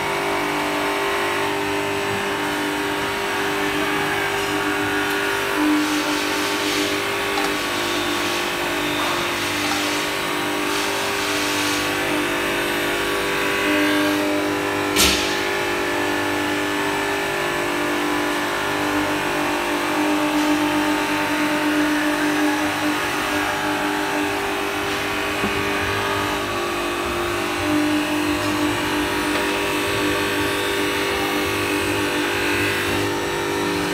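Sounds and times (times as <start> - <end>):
machine mechanical hum: 0.0 - 33.9.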